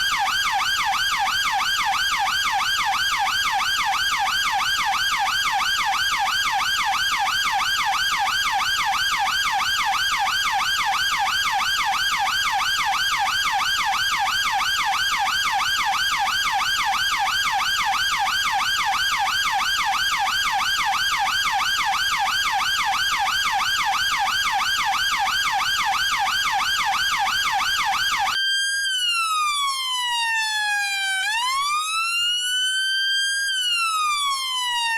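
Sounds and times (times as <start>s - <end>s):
police siren yelp and wail: 0.0s - 34.9s.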